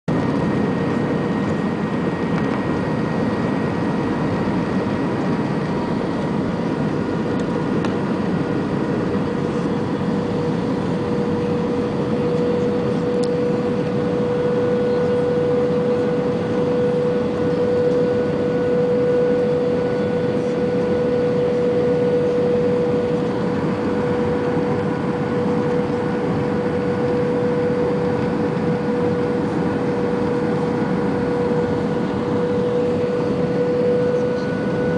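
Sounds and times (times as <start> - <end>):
aircraft engine drone: 0.1 - 34.9
steady whine: 0.1 - 34.9.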